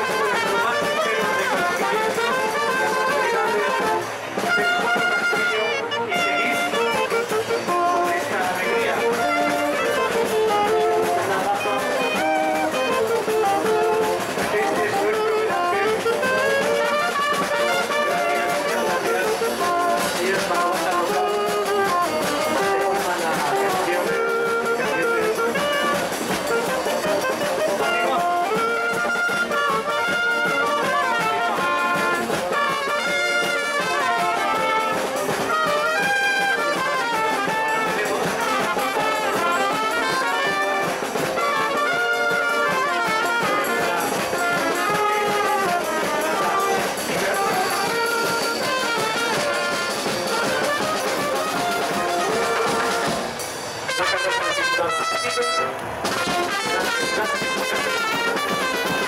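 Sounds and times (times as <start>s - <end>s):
brass band playing lively tune: 0.0s - 59.0s.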